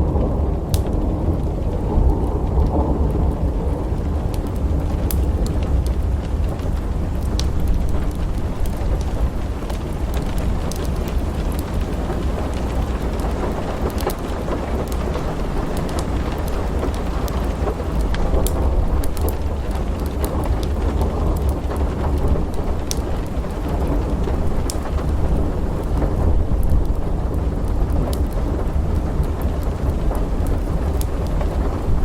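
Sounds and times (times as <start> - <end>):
low rumble of thunder: 0.0 - 32.0
steady rain: 0.0 - 32.0
wood fire crackling: 0.0 - 32.0.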